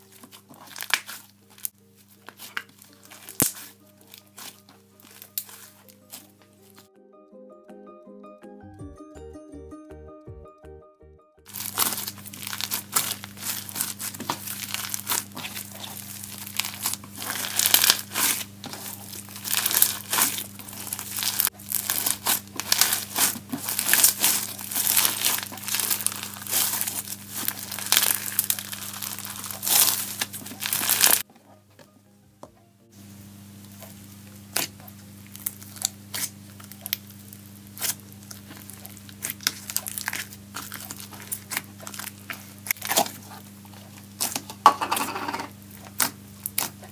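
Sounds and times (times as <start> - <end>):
foam slime crackling: 0.0 - 6.4, 11.5 - 31.3, 33.7 - 46.9.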